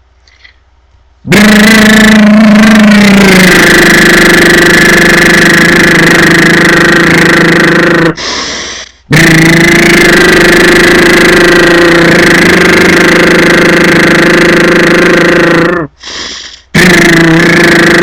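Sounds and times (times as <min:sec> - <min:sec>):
person doing lip trill: 0:01.2 - 0:18.0.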